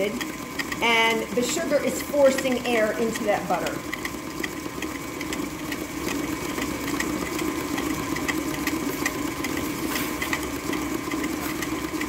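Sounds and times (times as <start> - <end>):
beater ticking in bowl: 0.0 - 12.0
stand mixer motor humming: 0.0 - 12.0.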